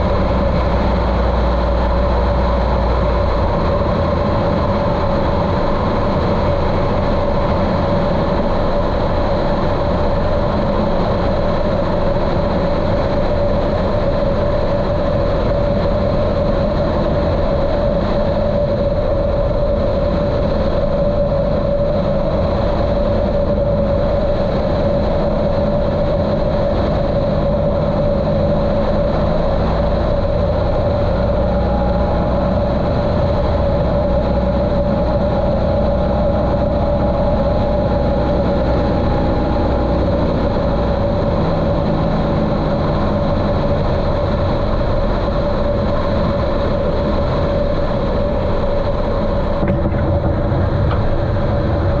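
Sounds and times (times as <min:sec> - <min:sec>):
muffled airplane engine droning: 0:00.0 - 0:52.0.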